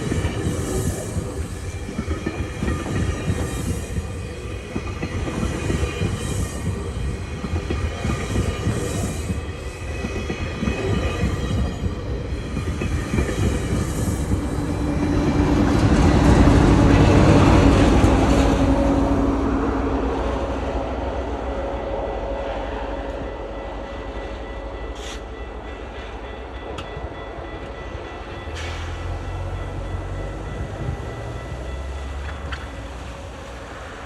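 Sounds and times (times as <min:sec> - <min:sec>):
train engine hum: 0:00.0 - 0:34.0
train wheels rumbling on rail: 0:00.0 - 0:34.0.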